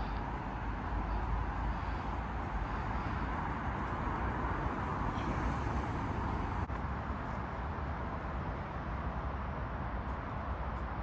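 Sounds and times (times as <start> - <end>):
low rumble of distant traffic: 0.0 - 11.0.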